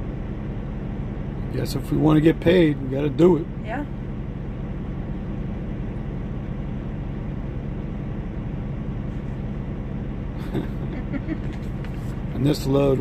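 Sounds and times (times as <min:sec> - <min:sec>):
truck engine drone from inside cab: 0:00.0 - 0:13.0.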